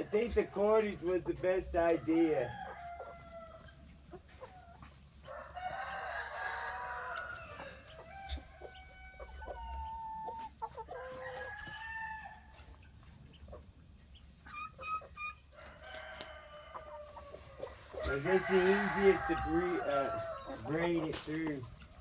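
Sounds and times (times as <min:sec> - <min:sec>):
roosters crowing: 0:00.0 - 0:04.5, 0:05.2 - 0:12.8, 0:15.4 - 0:22.0
hens clucking: 0:00.0 - 0:22.0.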